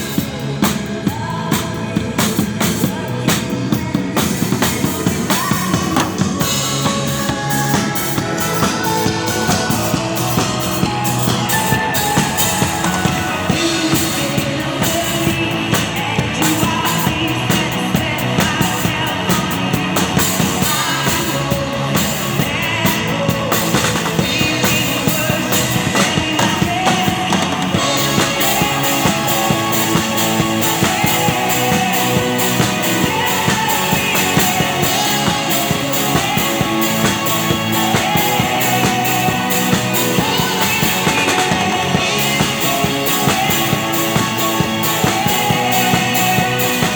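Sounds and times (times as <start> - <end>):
drum kit played hard: 0.0 - 46.9
guitar: 0.0 - 46.9
person singing: 0.0 - 46.9.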